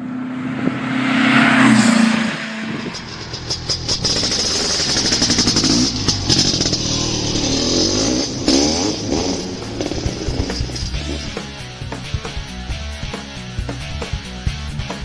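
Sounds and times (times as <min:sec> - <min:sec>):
engine revving: 0:00.0 - 0:12.6.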